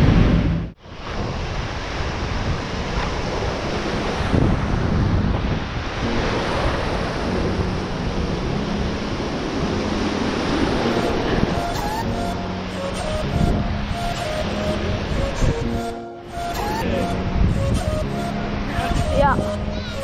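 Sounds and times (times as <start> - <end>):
waves breaking: 0.0 - 20.0
wind buffeting microphone: 0.0 - 20.0.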